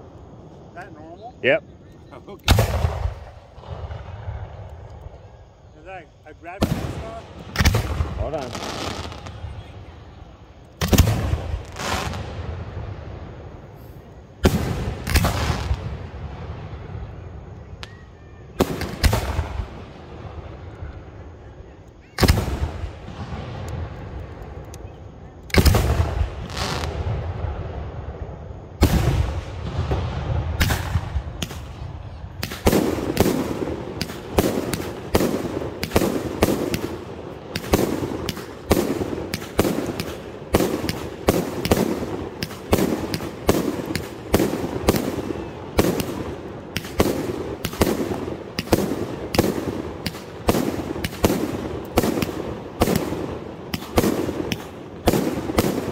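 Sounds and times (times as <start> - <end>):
firework shells booming: 2.2 - 13.7, 14.4 - 21.0, 22.1 - 24.7, 25.5 - 55.9.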